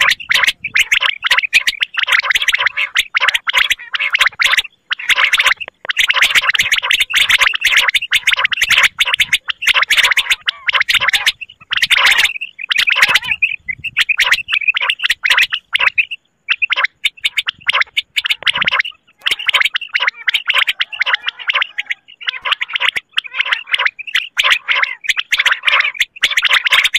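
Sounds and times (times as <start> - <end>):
quail calls rattling: 0.0 - 26.9.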